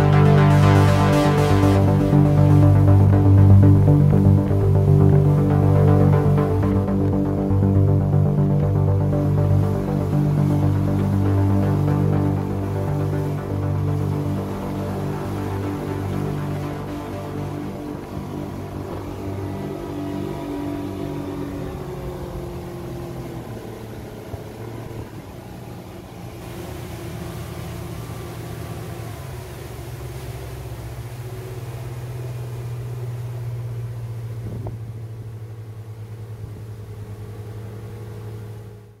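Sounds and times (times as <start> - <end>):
speedboat engine drone: 0.0 - 39.0
water rushing along hull: 0.0 - 39.0.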